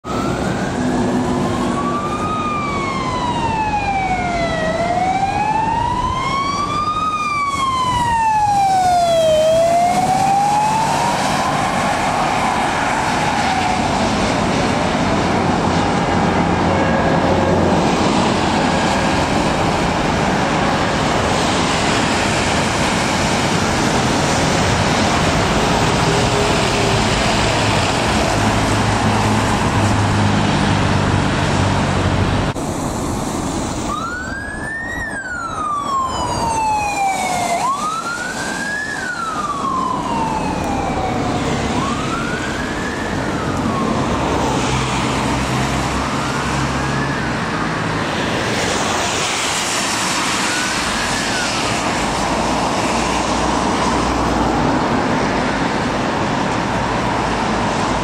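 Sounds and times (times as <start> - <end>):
fire engine siren wailing: 0.0 - 58.0
passing road traffic: 0.0 - 58.0
tyres hissing on wet road: 8.2 - 34.6, 36.6 - 58.0.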